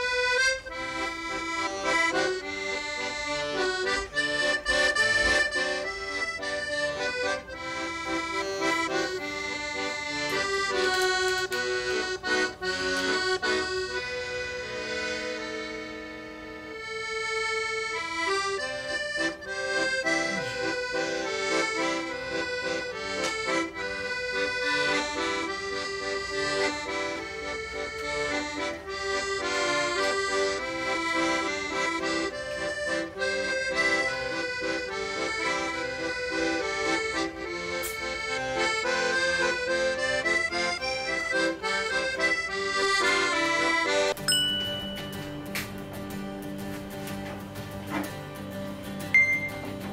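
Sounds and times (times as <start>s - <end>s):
comical accordion tune: 0.0s - 49.9s.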